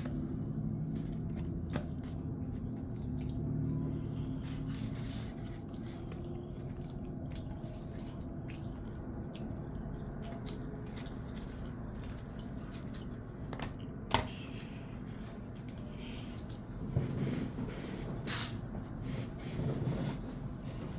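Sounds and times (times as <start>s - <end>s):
person chewing food: 0.0s - 17.2s
low background hum: 0.0s - 20.9s.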